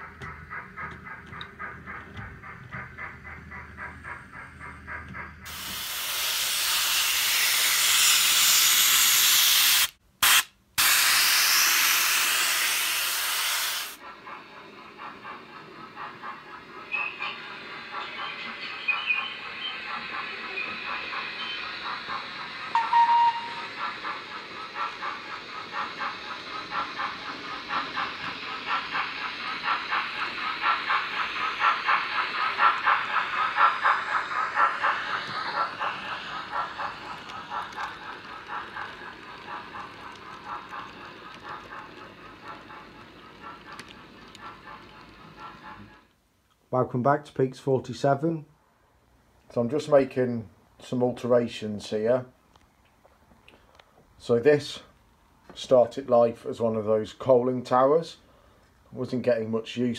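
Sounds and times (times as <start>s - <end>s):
model steam locomotive chuffing: 0.0s - 52.5s, 53.6s - 59.9s.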